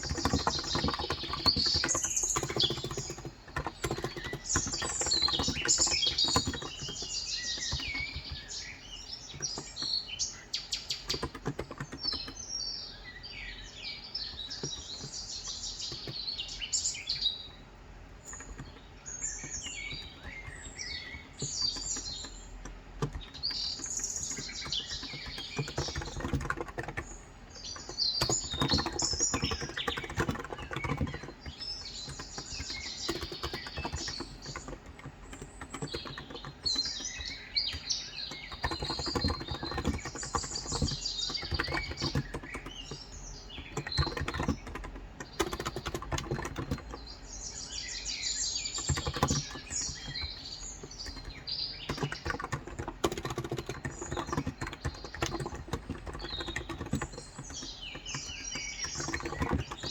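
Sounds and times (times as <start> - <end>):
keyboard typing: 0.0 - 12.4, 13.7 - 17.3, 18.1 - 47.4, 48.6 - 59.9
small birds chirping: 0.0 - 59.9.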